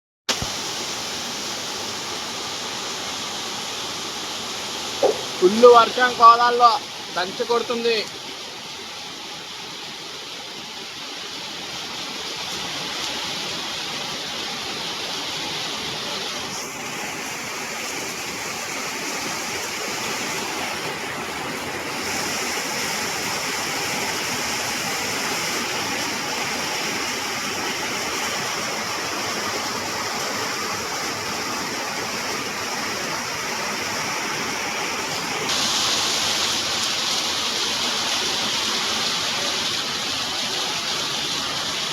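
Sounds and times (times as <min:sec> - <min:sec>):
heavy rain pouring: 0:00.3 - 0:41.9.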